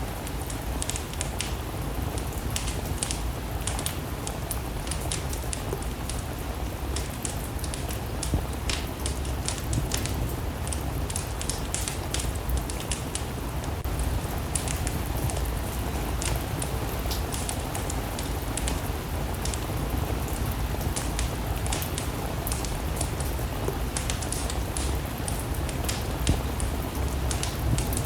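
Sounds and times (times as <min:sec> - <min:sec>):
steady rain: 0:00.0 - 0:28.0
wood fire crackling: 0:00.0 - 0:28.0.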